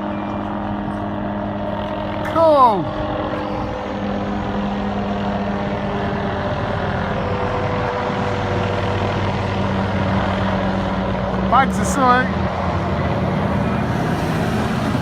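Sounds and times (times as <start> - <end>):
helicopter engine and rotors: 0.0 - 15.0.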